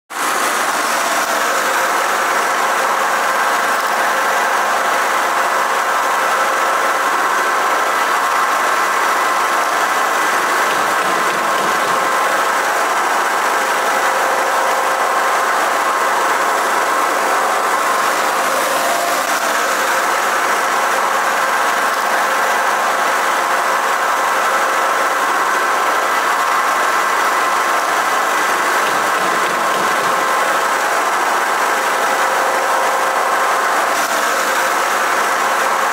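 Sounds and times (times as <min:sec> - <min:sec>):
machinery mechanical hum: 0:00.1 - 0:35.9.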